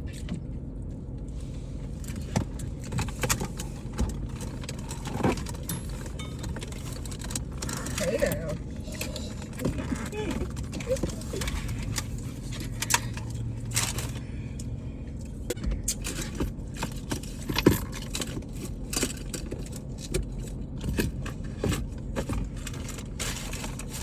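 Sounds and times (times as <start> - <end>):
low steady hum: 0.0 - 24.0
objects being rummaged in car: 0.0 - 24.0.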